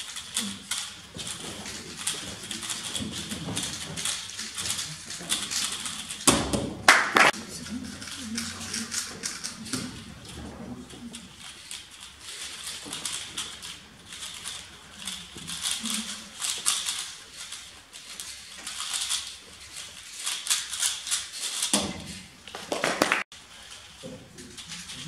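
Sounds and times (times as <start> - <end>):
speed cube rattling and clicking: 0.0 - 6.6, 7.3 - 10.3, 11.1 - 21.8.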